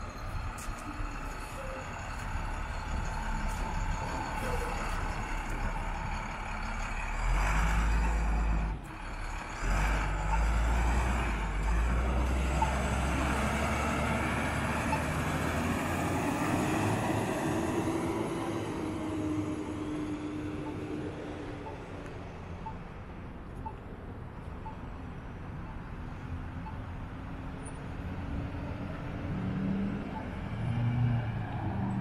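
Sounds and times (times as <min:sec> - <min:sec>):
street traffic: 0:00.0 - 0:32.0
truck engine rumbling: 0:00.0 - 0:32.0.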